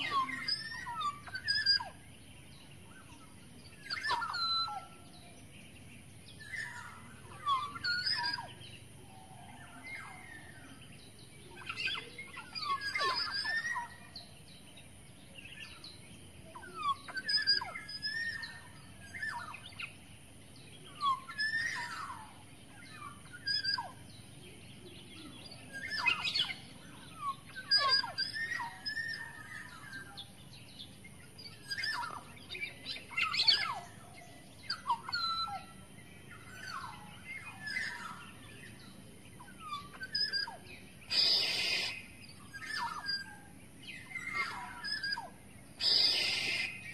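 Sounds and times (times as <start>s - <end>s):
bird whistling calls: 0.0s - 5.3s, 6.3s - 14.5s, 15.4s - 20.0s, 20.8s - 24.3s, 25.0s - 46.9s.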